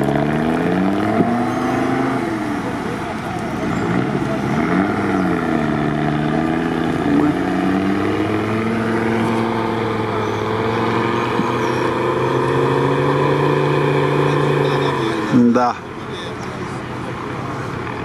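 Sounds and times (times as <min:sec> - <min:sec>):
car engine running under load: 0:00.0 - 0:18.0.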